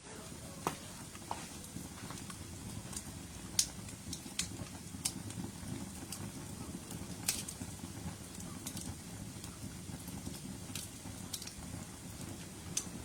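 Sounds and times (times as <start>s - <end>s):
campfire flame rushing: 0.0s - 13.0s
wood crackling and popping: 0.0s - 13.0s.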